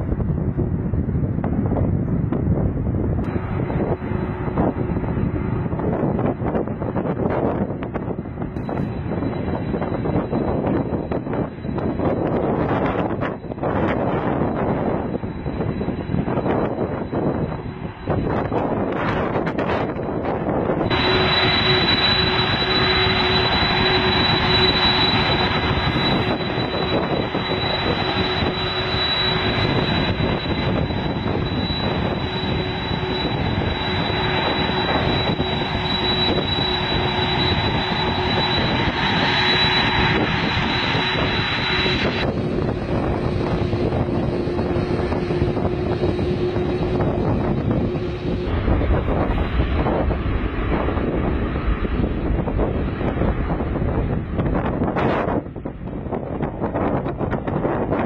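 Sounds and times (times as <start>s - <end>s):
high jet engine whine: 0.0s - 58.0s
jet engine rushing: 0.0s - 58.0s.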